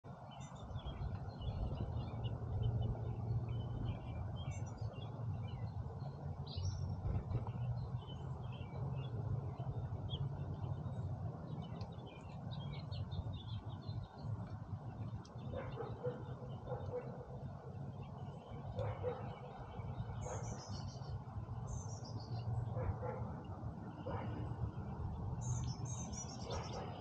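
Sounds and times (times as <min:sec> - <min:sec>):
songbirds chirping: 0:00.1 - 0:27.0
steady low rumble: 0:00.1 - 0:27.0.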